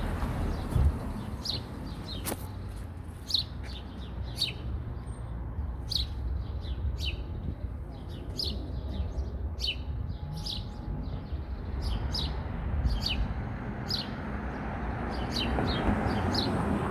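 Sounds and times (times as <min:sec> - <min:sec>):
small birds chirping: 0:00.4 - 0:16.7.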